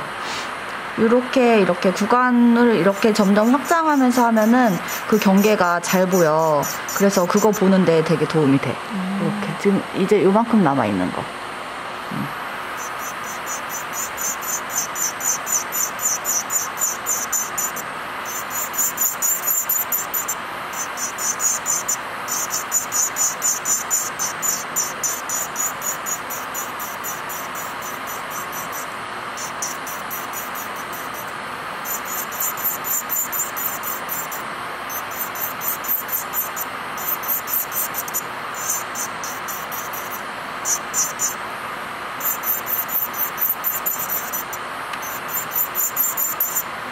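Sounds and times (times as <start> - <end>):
drill bit scratching fingernail: 2.8 - 7.7, 12.8 - 41.4, 42.2 - 46.6
electric nail drill whining: 2.8 - 7.7, 12.7 - 41.4, 42.2 - 46.6.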